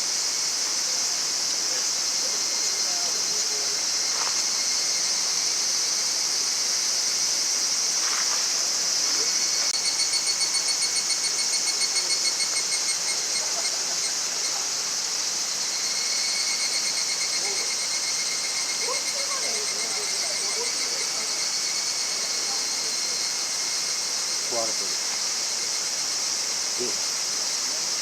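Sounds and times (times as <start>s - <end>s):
insect fast pulsing trill: 0.0s - 28.0s
insects chirping chorus: 0.0s - 28.0s.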